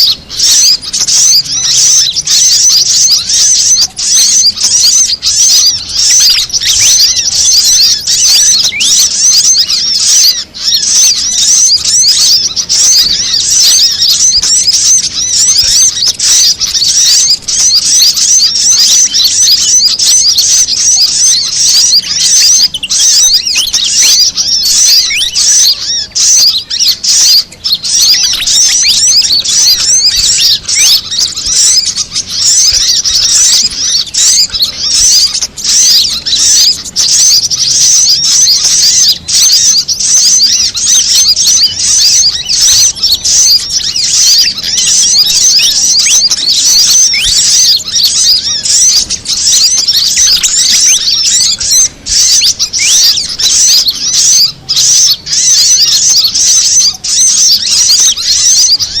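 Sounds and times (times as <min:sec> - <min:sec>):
fantail calls: 0:00.0 - 0:59.0
sunbird calls: 0:00.0 - 0:59.0.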